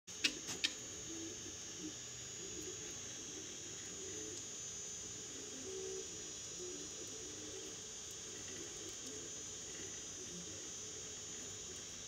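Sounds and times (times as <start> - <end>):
steady high whine: 0.1 - 12.0.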